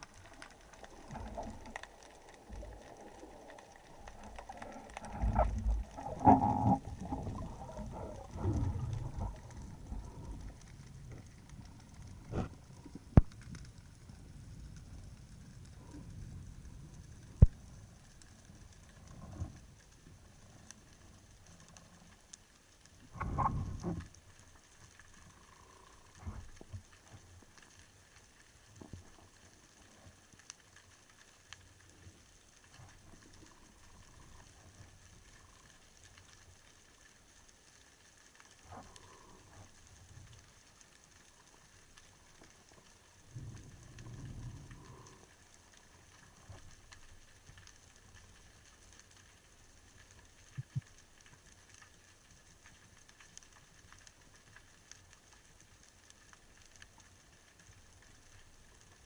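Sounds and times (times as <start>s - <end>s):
underwater crackling ticks: 0.0s - 59.0s.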